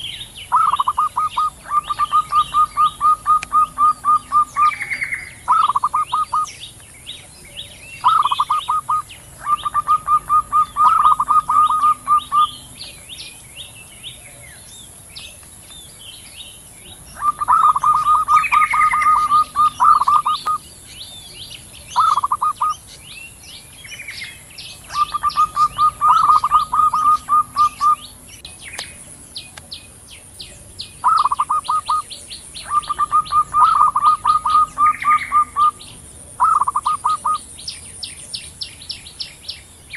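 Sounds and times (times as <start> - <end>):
doves cooing: 0.0 - 16.0, 16.7 - 28.3, 30.5 - 37.5
small birds chirping: 0.0 - 39.9.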